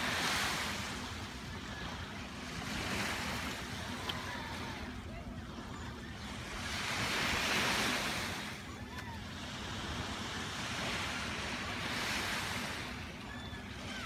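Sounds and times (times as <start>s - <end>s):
small waves lapping on sand: 0.0s - 14.0s.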